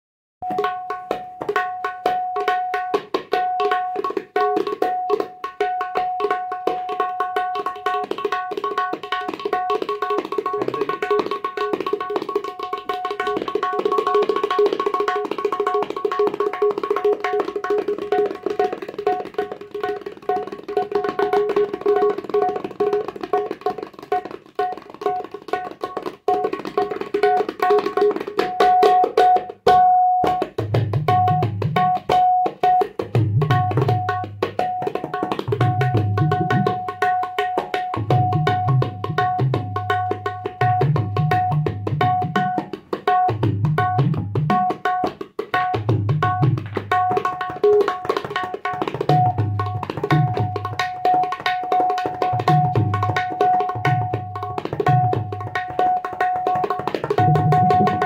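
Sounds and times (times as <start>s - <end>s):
tabla hand strokes: 0.4s - 58.0s.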